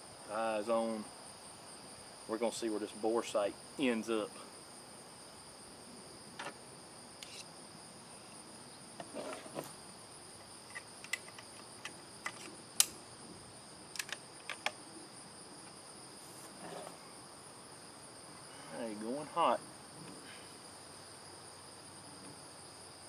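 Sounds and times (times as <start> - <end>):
insects chirping in grass: 0.0 - 23.0.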